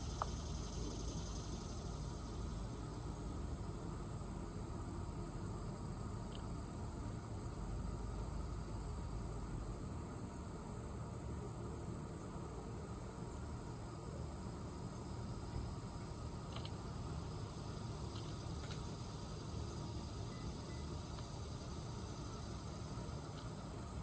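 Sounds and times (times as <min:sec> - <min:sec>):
high-pitched insect trill: 0:00.0 - 0:10.6, 0:13.2 - 0:24.0.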